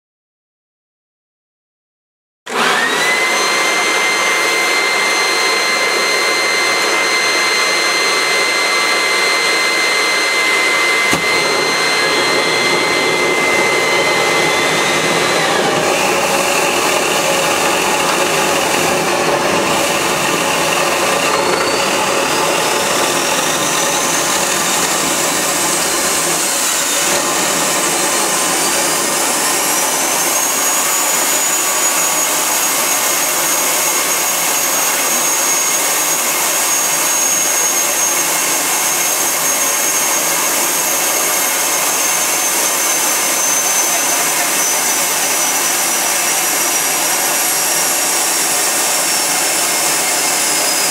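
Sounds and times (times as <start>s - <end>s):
leaf blower whine: 2.5s - 50.9s
turbine whine rising in pitch: 2.5s - 50.9s.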